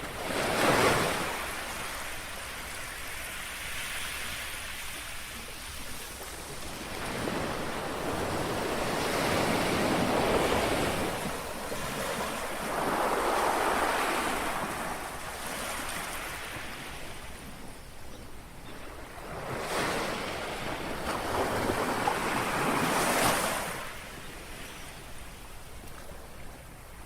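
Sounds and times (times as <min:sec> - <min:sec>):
sea waves lapping on shore: 0:00.0 - 0:27.0.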